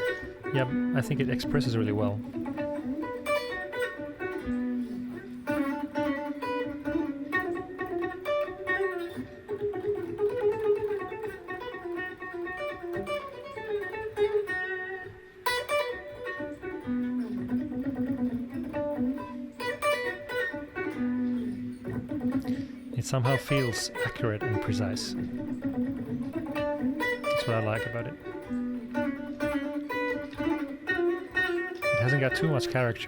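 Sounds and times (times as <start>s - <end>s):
electric guitar picking single notes: 0.0s - 33.0s.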